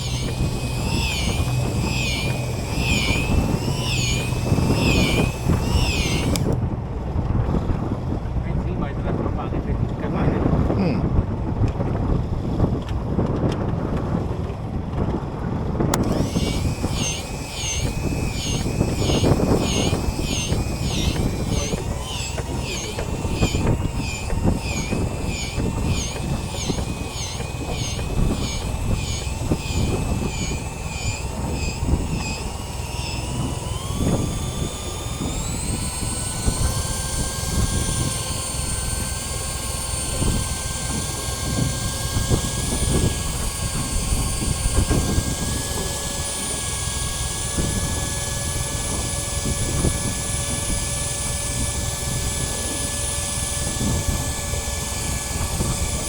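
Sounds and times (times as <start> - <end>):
boat motor whining: 0.0 - 56.0.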